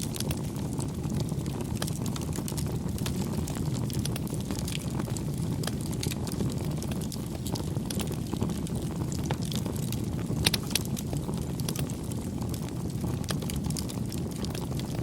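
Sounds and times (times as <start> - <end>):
campfire crackles and pops: 0.0 - 15.0
low rumble of flames: 0.0 - 15.0.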